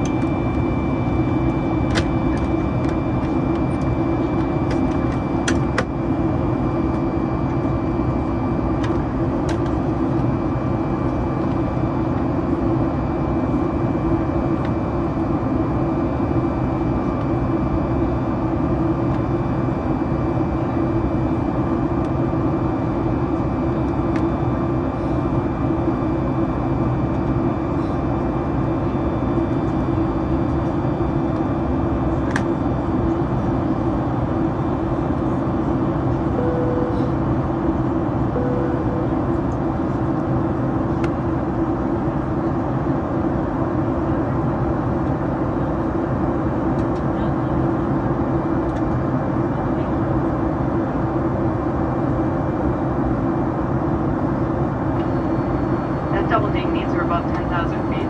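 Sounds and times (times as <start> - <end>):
faint high fan whines: 0.0 - 58.0
jet engine cabin drone: 0.0 - 58.0.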